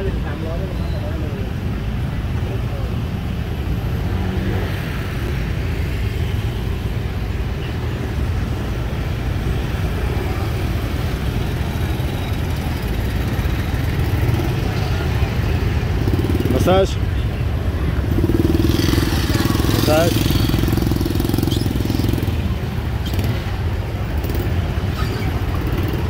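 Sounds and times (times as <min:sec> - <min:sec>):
cars and motorbikes passing: 0:00.0 - 0:26.0.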